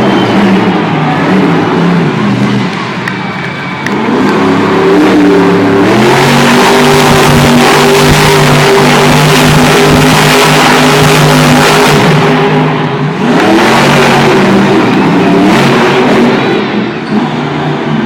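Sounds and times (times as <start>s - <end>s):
truck engine revving loudly: 0.0s - 18.0s.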